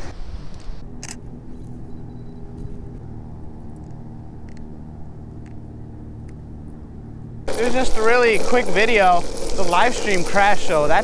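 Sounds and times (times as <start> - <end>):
muffled vehicle engine running: 0.0 - 11.0.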